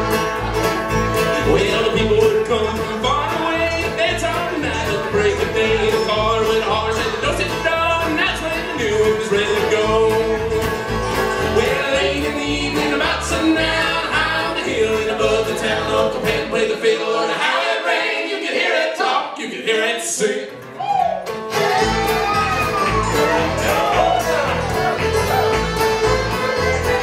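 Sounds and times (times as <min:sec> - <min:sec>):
upright bass: 0:00.0 - 0:16.8, 0:21.0 - 0:27.0
bluegrass band playing and singing: 0:00.0 - 0:27.0.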